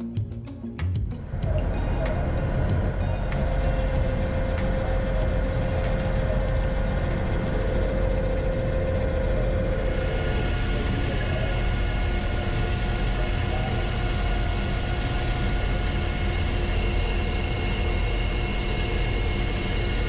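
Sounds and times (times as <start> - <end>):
metal lathe humming: 1.2 - 20.0
lathe cutting metal tube: 1.3 - 20.0.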